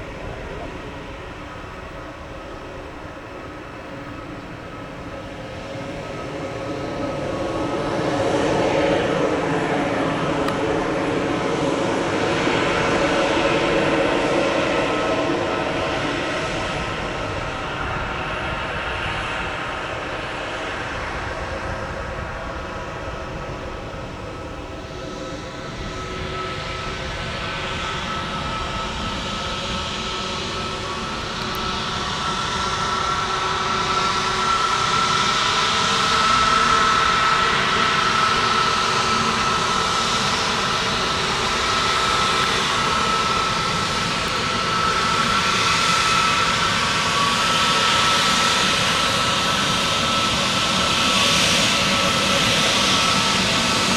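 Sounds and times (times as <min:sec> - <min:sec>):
jet engines whining at low power: 0:00.0 - 0:53.9.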